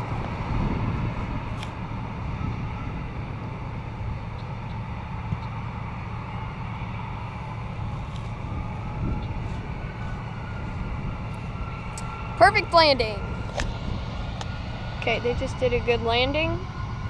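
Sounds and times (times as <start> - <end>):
jet airliner landing: 0.0 - 17.0.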